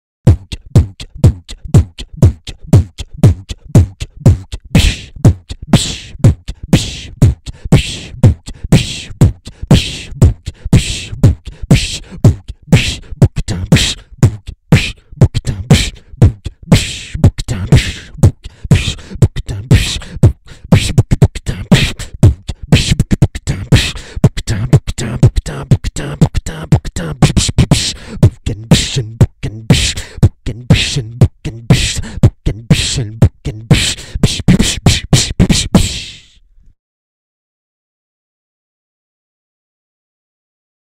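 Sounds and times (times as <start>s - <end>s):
low vocal kick thumps: 0.2s - 36.0s
human beatbox groove: 0.2s - 36.4s
hissing vocal snare strokes: 0.4s - 36.4s.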